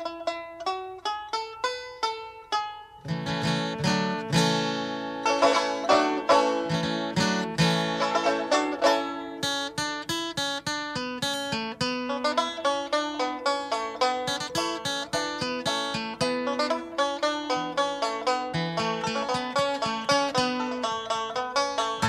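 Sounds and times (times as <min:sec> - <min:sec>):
bluegrass plucked string music: 0:00.0 - 0:22.0.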